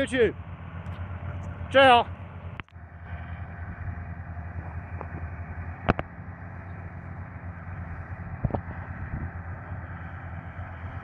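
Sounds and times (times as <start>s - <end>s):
drilling rig engine hum: 0.0s - 11.0s.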